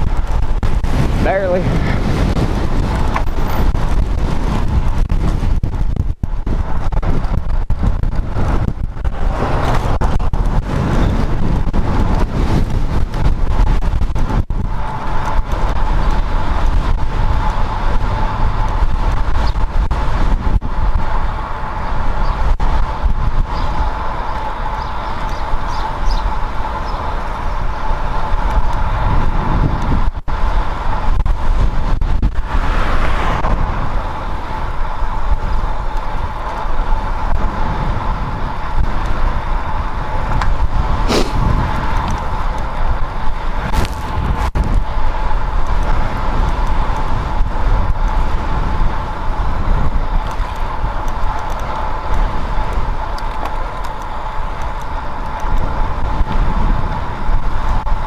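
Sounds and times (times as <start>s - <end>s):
wind and tyre rush: 0.0s - 58.0s
cars passing: 6.3s - 58.0s.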